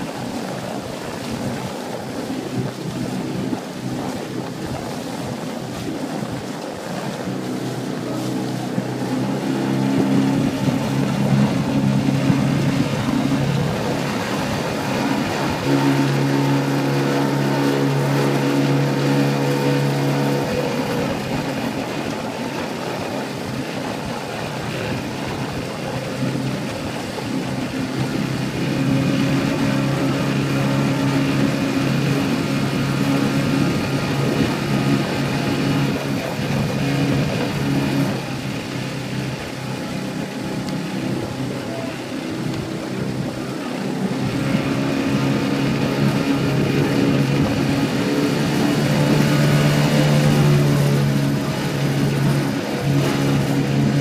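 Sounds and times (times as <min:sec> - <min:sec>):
outboard motor humming: 0:00.0 - 0:54.0.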